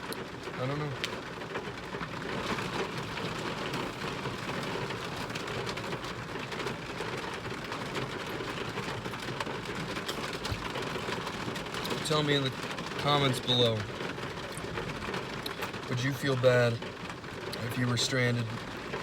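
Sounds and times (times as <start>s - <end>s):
pouring rain: 0.0s - 19.0s.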